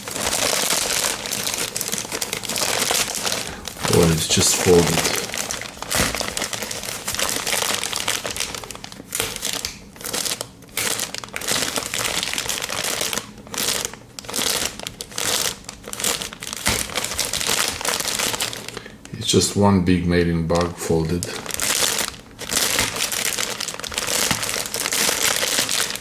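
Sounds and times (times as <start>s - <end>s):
mailing bag crinkling: 0.0s - 19.4s, 20.6s - 26.0s.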